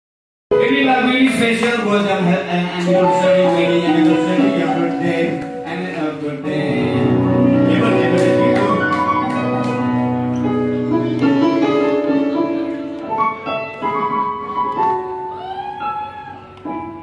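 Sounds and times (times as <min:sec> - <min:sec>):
keyboard piano chords and melody: 0:00.5 - 0:17.0.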